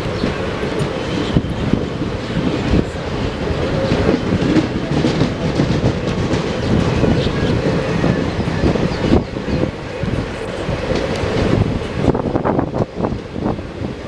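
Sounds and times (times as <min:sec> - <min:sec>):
train wheels clacking over rail joints: 0:00.0 - 0:13.0
train rumbling past: 0:00.0 - 0:14.0.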